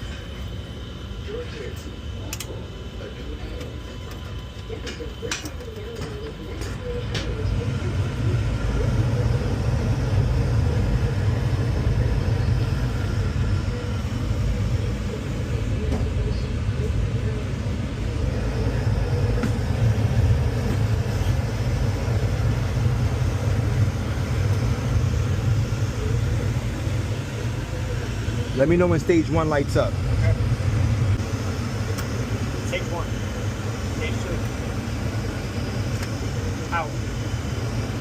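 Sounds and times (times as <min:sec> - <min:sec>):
machinery rumbling: 0:00.0 - 0:38.0.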